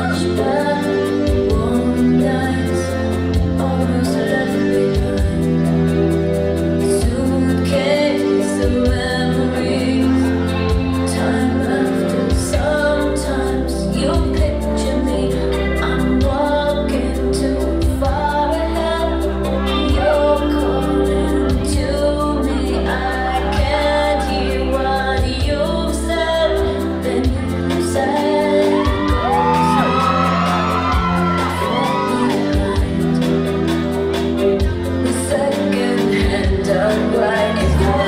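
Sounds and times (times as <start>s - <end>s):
song with singer: 0.0s - 38.0s
steady bass line: 0.0s - 38.0s.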